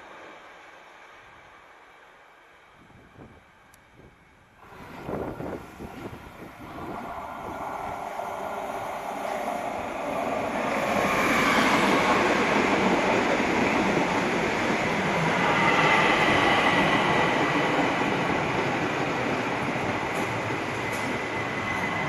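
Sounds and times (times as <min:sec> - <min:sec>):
train wheel and rail noise: 0:00.0 - 0:22.0.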